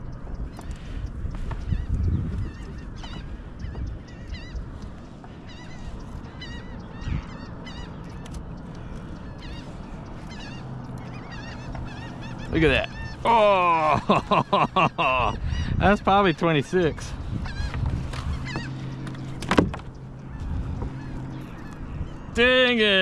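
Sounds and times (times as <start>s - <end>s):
gulls squawking: 0.0s - 23.0s.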